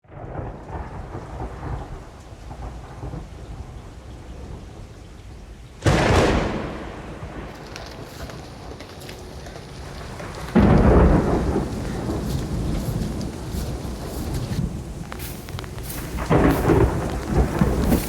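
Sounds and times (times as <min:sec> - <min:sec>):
loud thunderclap: 0:00.0 - 0:04.8, 0:05.8 - 0:18.0
heavy rain falling: 0:00.0 - 0:18.0
low rumbling thunder: 0:00.0 - 0:18.0.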